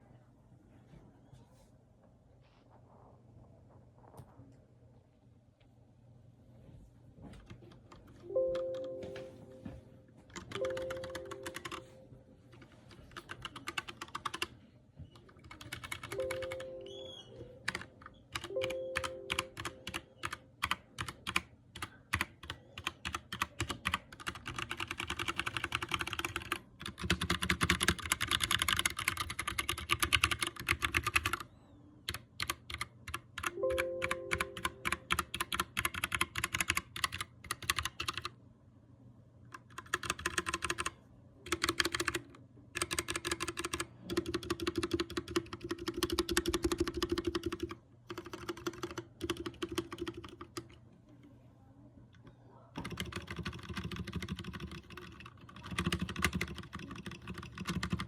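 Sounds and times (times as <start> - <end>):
keyboard typing: 7.4 - 38.3, 39.5 - 50.8, 52.2 - 58.0.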